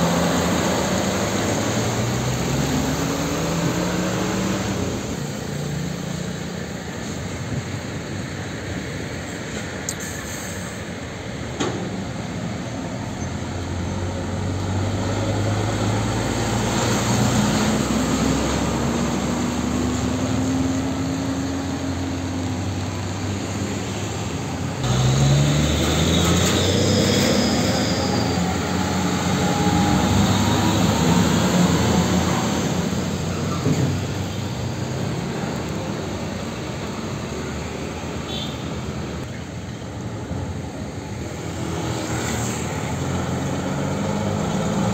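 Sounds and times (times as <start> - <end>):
diesel truck passing: 0.0 - 44.9
tyre and road noise: 0.0 - 44.9.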